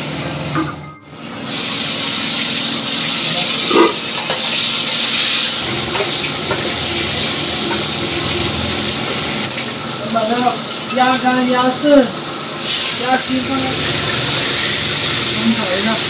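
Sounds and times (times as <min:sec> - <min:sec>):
meat sizzling in a wok: 0:01.2 - 0:16.0.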